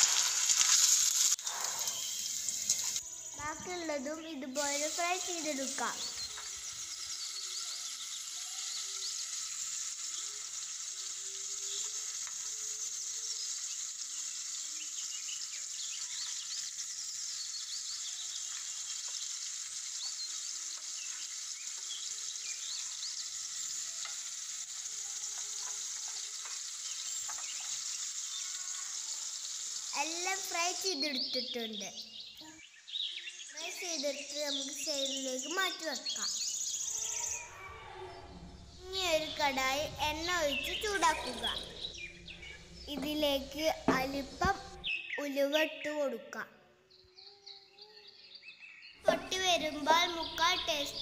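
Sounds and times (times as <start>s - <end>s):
fish sizzling in hot oil: 0.0s - 37.6s, 38.5s - 45.1s, 49.0s - 51.0s.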